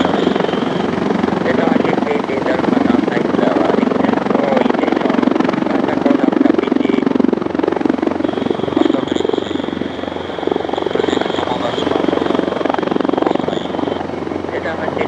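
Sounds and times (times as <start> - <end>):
helicopter rotor chop: 0.0 - 15.0
high engine whine: 0.0 - 15.0.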